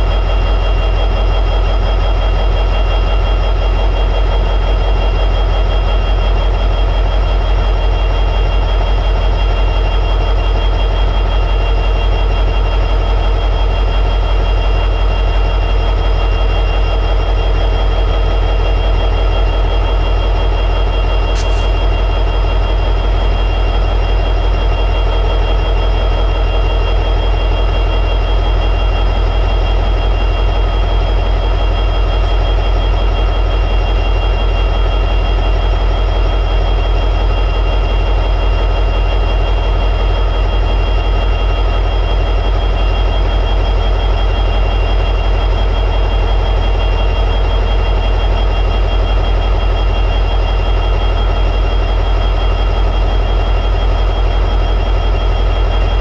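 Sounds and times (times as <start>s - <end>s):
diesel locomotive engine idling: 0.0s - 56.0s.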